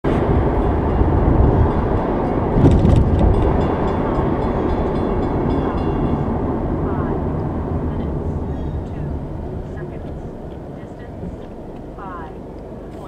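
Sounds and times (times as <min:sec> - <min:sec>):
road and engine rumble in car: 0:00.0 - 0:13.0
railroad crossing bell ringing: 0:00.1 - 0:12.5.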